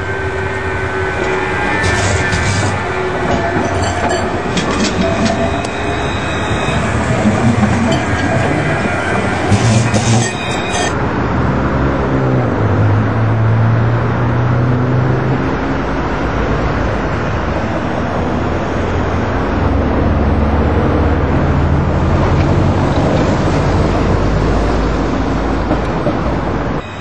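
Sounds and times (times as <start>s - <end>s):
tram running past: 0.0s - 13.1s, 14.5s - 27.0s
street noise with low hum: 0.0s - 27.0s.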